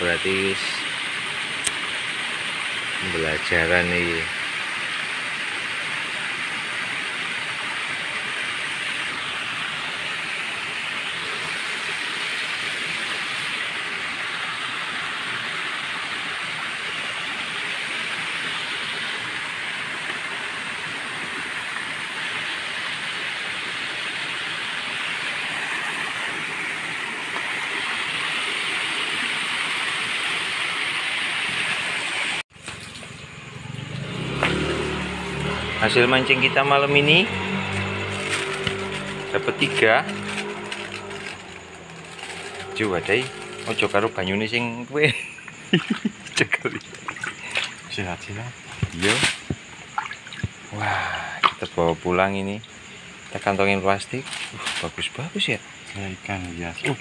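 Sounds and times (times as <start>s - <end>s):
steady outdoor hiss: 0.0s - 57.0s.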